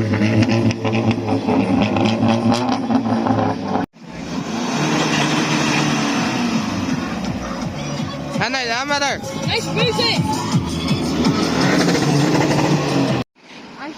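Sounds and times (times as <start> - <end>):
car engine revving: 0.0 - 13.3.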